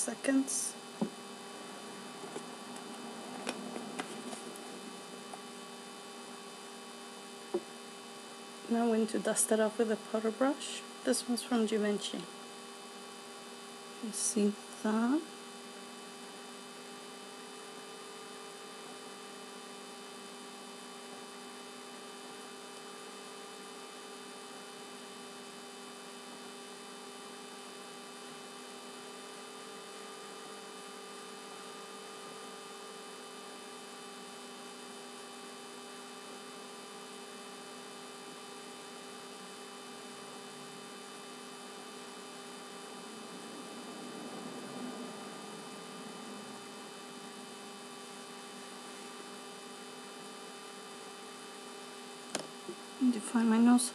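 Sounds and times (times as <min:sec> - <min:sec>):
steady electrical hum: 0:00.0 - 0:53.9.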